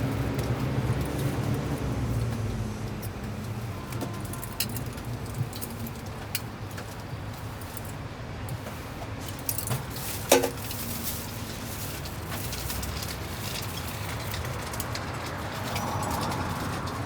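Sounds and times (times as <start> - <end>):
food stall cooking background: 0.0 - 17.0.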